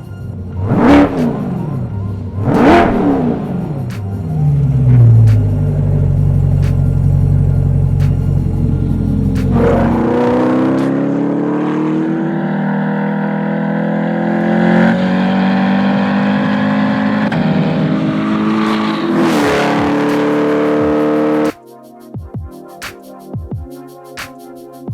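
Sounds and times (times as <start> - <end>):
car exhaust accelerating hard: 0.3 - 21.5.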